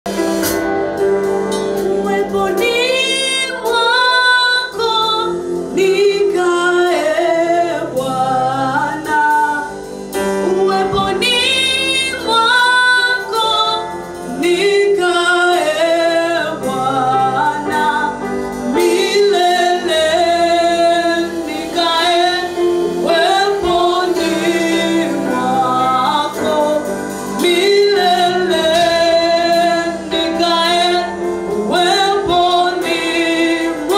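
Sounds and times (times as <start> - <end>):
instrumental accompaniment: 0.0 - 33.9
gospel singers: 0.1 - 33.9.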